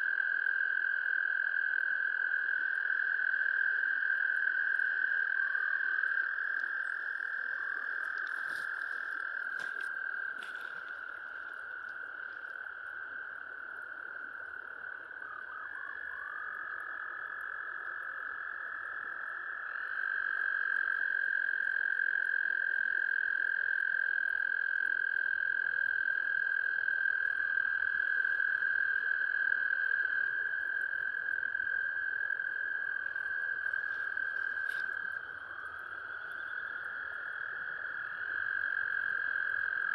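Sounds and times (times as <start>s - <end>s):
frogs trilling in chorus: 0.0s - 39.9s.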